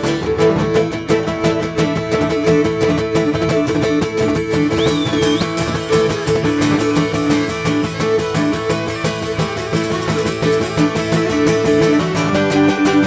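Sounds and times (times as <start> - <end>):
bowed lyra dance melody: 0.0 - 13.0
strummed plucked strings: 0.0 - 13.0.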